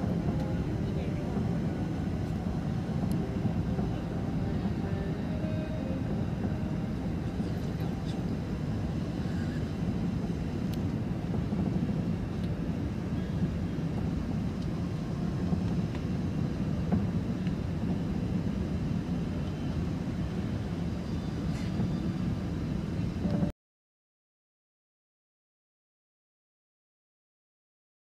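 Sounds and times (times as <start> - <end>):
jet engines rumbling in cabin: 0.0 - 23.5.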